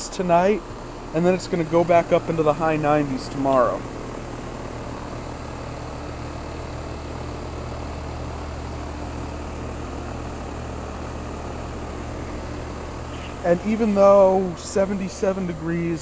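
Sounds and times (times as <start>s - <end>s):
compressor humming low: 0.0s - 16.0s
condenser fan whirring: 0.0s - 16.0s.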